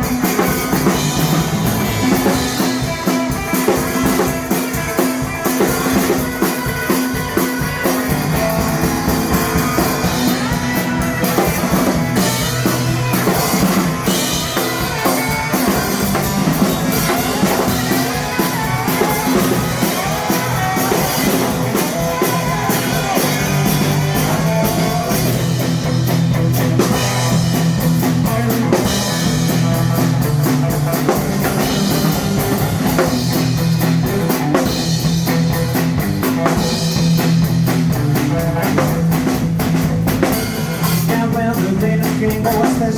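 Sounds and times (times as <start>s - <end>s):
blues band playing: 0.0s - 42.9s
drum kit: 0.0s - 42.9s
guitar: 0.0s - 42.9s.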